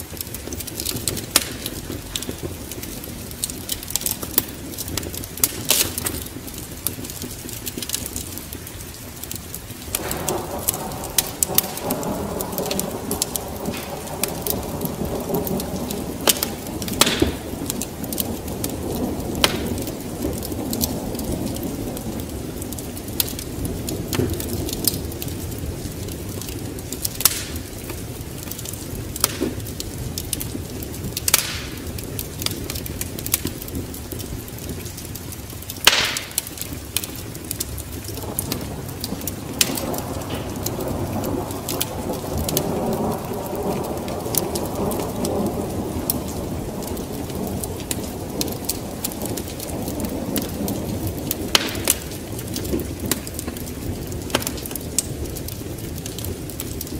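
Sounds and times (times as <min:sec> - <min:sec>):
steady rain: 0:00.0 - 0:56.9
thunder rumble: 0:00.0 - 0:56.9
wood fire crackling: 0:00.0 - 0:56.9.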